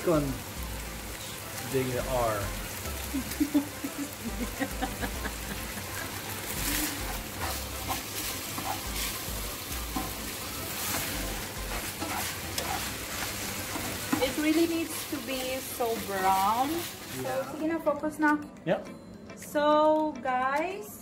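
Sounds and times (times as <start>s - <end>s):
bacon sizzling in a pan: 0.0s - 17.8s.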